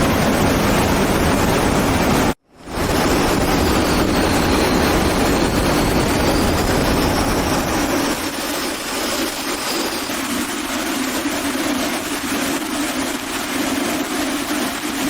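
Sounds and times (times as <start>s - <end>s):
fighter jet engine roaring: 0.0s - 15.0s
high turbine whine: 0.0s - 15.0s.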